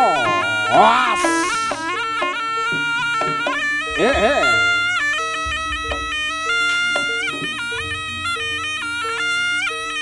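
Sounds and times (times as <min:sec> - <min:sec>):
repeating two-note accompaniment: 0:00.0 - 0:10.0
shrill shawm melody: 0:00.0 - 0:10.0.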